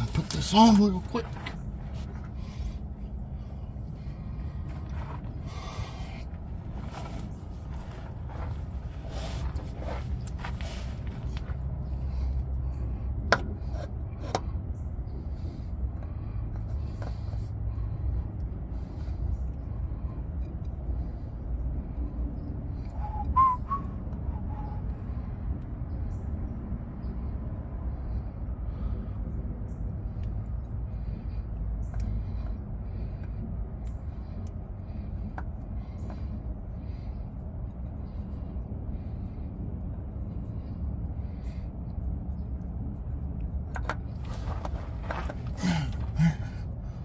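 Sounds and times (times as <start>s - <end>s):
low rumble: 0.0s - 47.0s.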